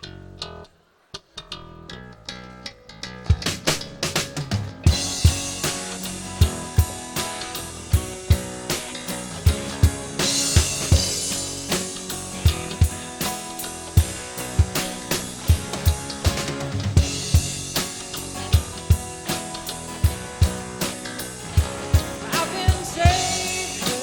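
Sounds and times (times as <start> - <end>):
music with drum kit beat: 3.2 - 24.0.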